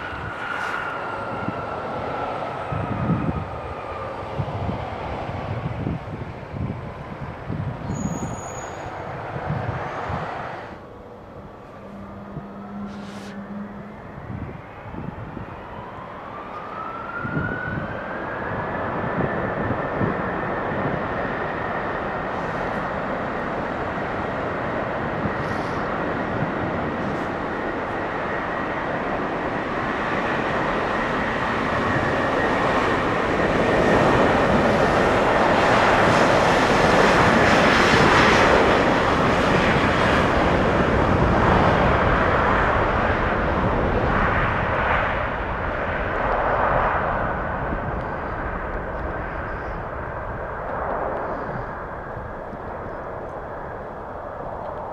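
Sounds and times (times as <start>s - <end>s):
jet airliner engines running: 0.0s - 54.9s
jet engine whine: 0.0s - 54.9s.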